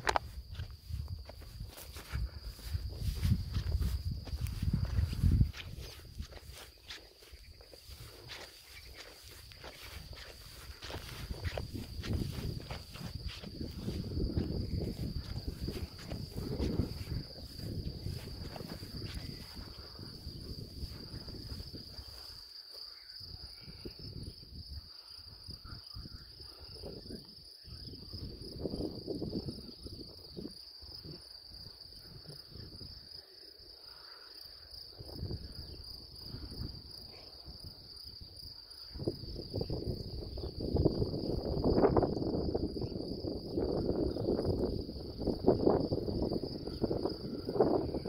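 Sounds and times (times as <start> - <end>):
crickets chirring: 0.0 - 48.0
wind rumbling on microphone: 0.0 - 48.0.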